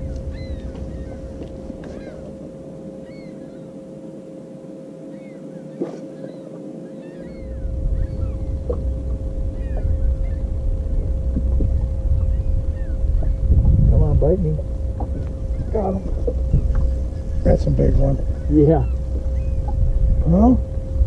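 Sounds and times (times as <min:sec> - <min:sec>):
wind rumble on microphone: 0:00.0 - 0:03.8, 0:05.7 - 0:21.0
electric trolling motor whine: 0:00.0 - 0:21.0.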